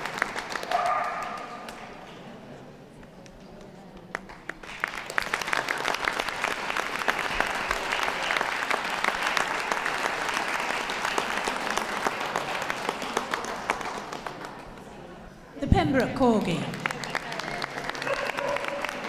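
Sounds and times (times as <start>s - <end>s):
audience applauding: 0.0s - 2.1s, 4.1s - 14.9s, 16.4s - 19.0s.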